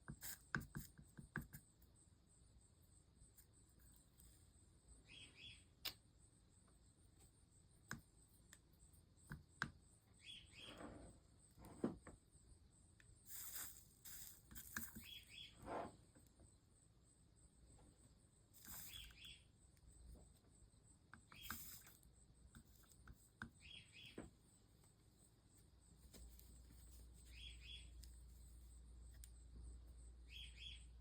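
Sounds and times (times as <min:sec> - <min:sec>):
faint bird chirps: 0:01.7 - 0:11.6, 0:14.8 - 0:24.8, 0:25.6 - 0:31.0.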